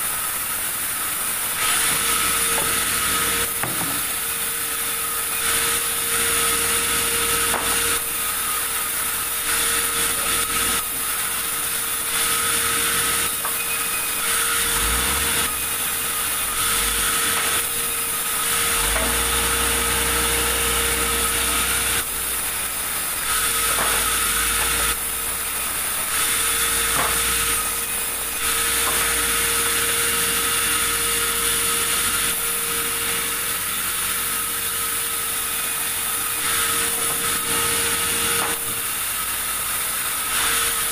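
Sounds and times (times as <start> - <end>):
sawmill saw cutting timber: 0.0 - 40.9.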